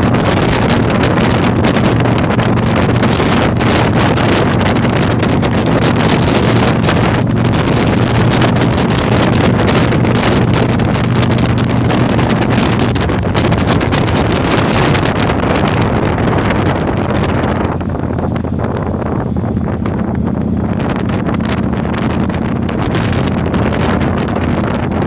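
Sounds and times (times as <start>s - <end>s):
motorcycle engine drone: 0.0s - 25.0s
wind buffeting microphone: 0.0s - 25.0s.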